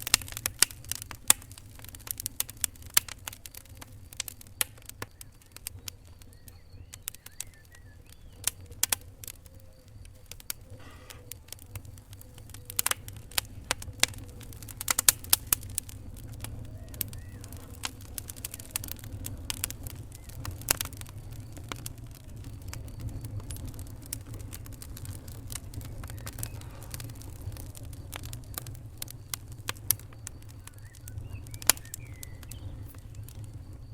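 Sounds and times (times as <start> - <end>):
fire pops and snaps: 0.0 - 33.9
low rumble of burning fire: 0.0 - 33.9.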